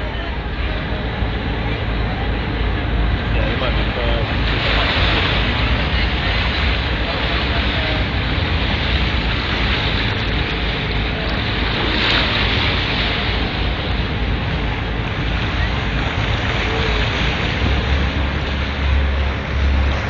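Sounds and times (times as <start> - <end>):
water splashing along boat hull: 0.0 - 20.0
wind buffeting microphone: 0.0 - 20.0.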